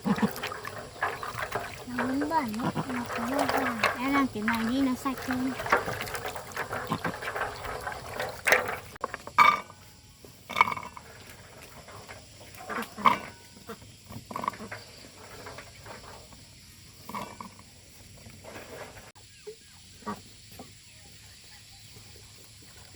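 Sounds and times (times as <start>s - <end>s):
knocks and rustles: 0.0s - 9.9s, 10.5s - 19.2s.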